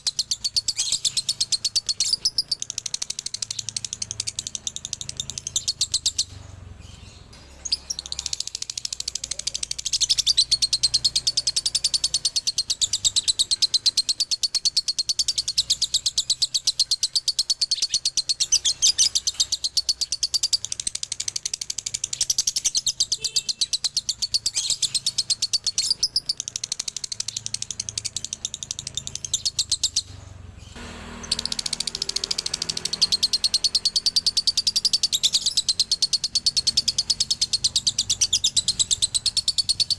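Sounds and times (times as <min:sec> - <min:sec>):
lovebird high-pitched chatter: 0:00.0 - 0:39.9.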